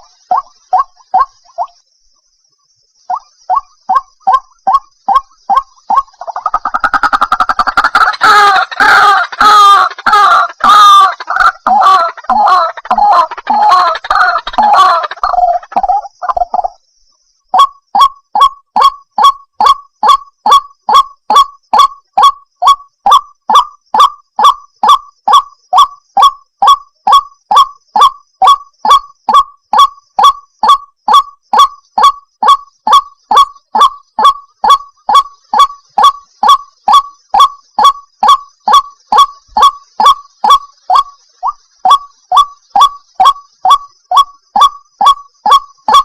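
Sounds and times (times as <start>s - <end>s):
bird call in fast series: 0.0s - 1.8s, 3.0s - 16.8s, 17.5s - 46.0s.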